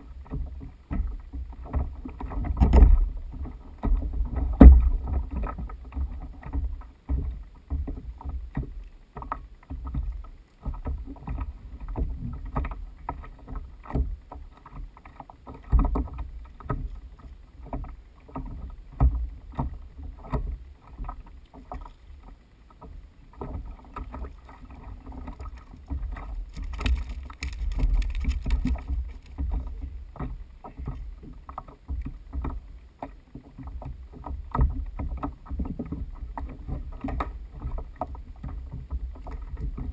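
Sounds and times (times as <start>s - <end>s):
knocks and bumps on kayak: 0.0s - 22.0s, 22.8s - 39.9s
water sounds: 0.0s - 39.9s.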